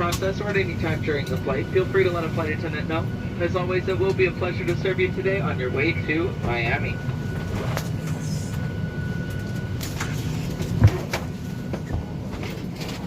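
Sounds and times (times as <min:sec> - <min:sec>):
cabin ventilation hum: 0:00.0 - 0:13.0.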